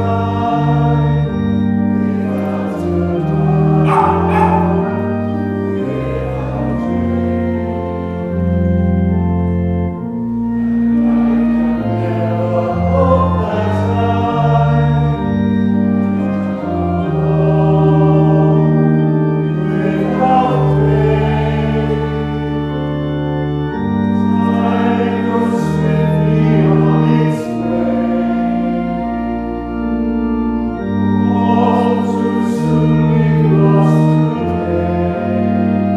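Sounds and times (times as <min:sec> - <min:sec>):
congregation singing a hymn: 0:00.0 - 0:35.9
organ chords: 0:00.0 - 0:35.9.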